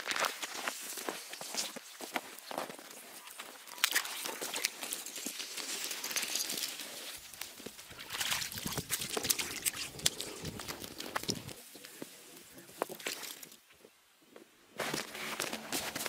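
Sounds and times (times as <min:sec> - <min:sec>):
snow and ice crunching: 0:00.0 - 0:13.6, 0:14.8 - 0:16.0.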